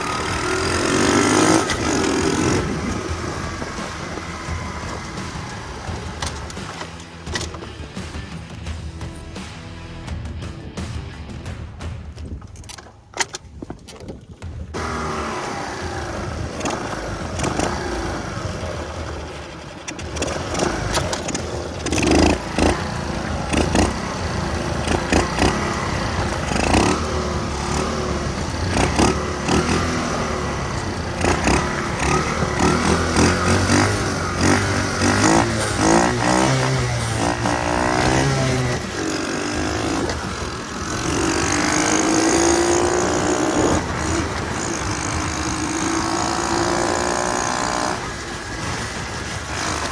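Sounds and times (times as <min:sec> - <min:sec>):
small motorcycle engine running: 0:00.0 - 0:08.8, 0:14.4 - 0:49.9.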